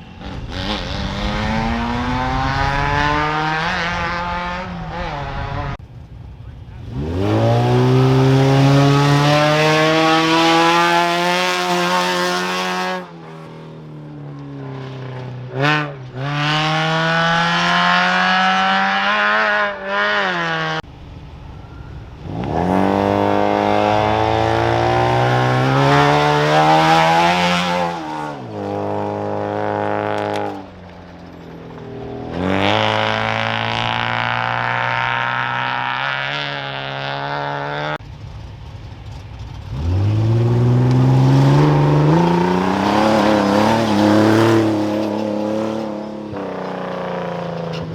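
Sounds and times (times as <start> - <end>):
race vehicle engines accelerating: 0.0 - 13.6, 14.7 - 47.9.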